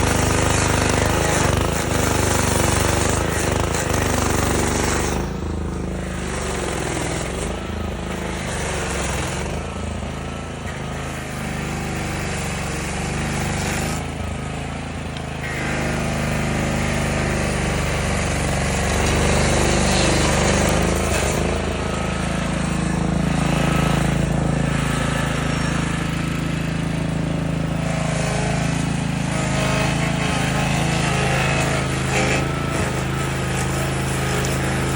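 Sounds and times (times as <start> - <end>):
petrol engine running: 0.0 - 34.9
wheel grinding tree stump: 0.0 - 34.9.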